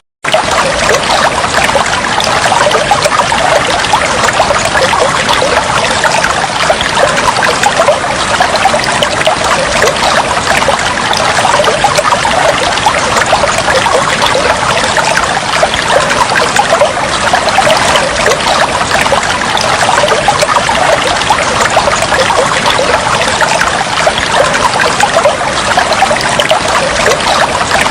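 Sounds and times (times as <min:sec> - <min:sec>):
water trickling and splashing: 0:00.2 - 0:27.9.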